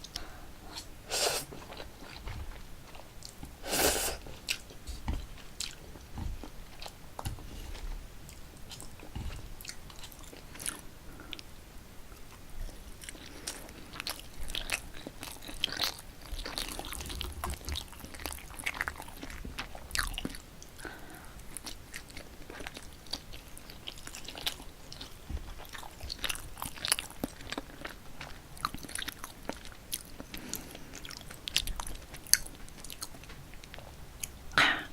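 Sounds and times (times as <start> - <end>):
chewing noodles: 0.0 - 11.5, 12.1 - 34.4.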